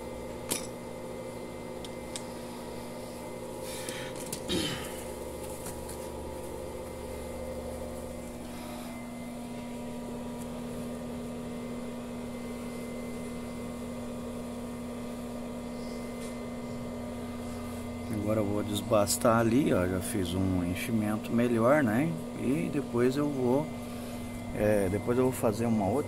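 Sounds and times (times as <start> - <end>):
welding machine electrical hum: 0.0 - 26.0.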